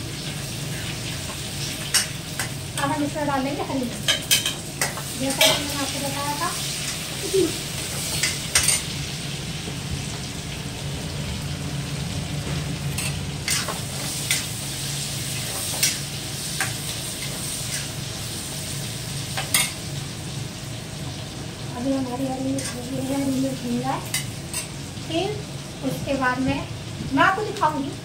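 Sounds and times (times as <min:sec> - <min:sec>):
chillies and garlic sizzling in oil: 0:00.0 - 0:28.0.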